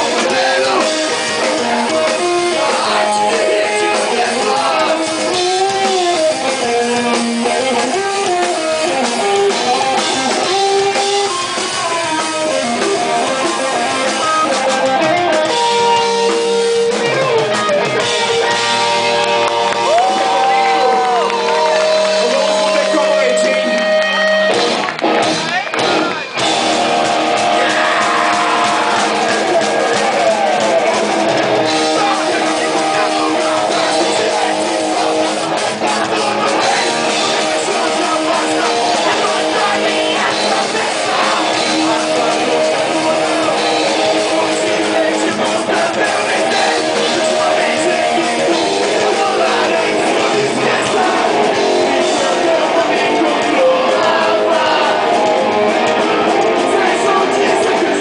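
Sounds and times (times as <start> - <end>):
person singing: 0.0 - 24.1, 27.4 - 58.0
electric guitar: 0.0 - 58.0
live rock band playing: 0.0 - 58.0.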